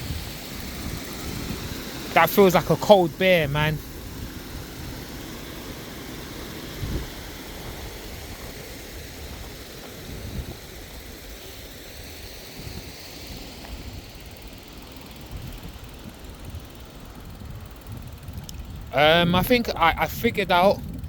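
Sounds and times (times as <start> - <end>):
low buffeting: 0.0 - 11.7, 15.2 - 21.0
steady low rumble and hiss: 0.0 - 21.0.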